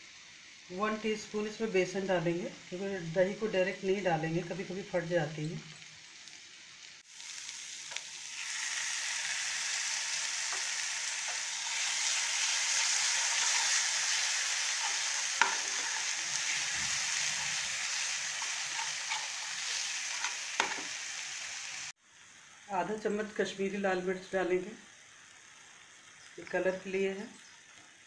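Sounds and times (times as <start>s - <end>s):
masala sizzling in frying pan: 0.0s - 28.0s.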